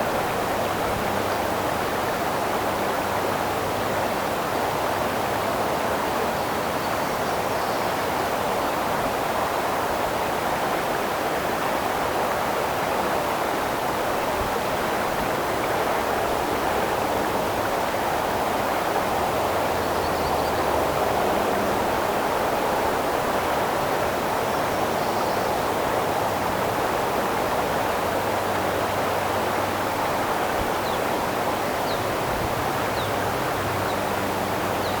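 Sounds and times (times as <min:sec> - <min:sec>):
creek water flowing over rocks: 0:00.0 - 0:35.0.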